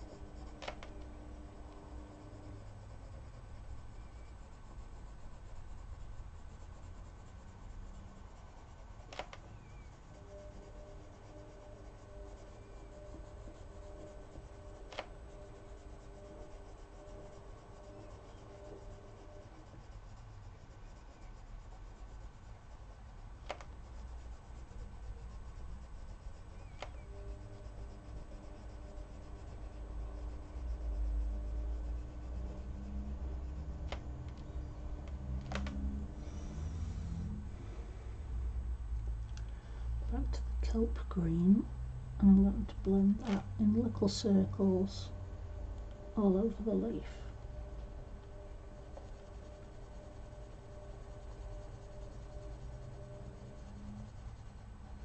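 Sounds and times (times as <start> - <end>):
coloured pencil scratching on paper: 0.0 - 45.2, 46.0 - 55.0.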